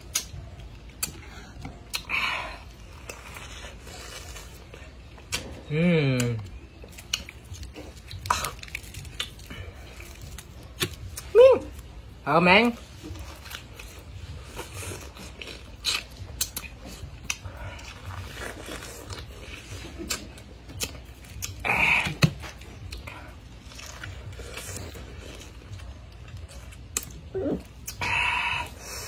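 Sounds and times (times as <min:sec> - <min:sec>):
crunching pineapple: 0:00.0 - 0:12.0, 0:12.6 - 0:28.7.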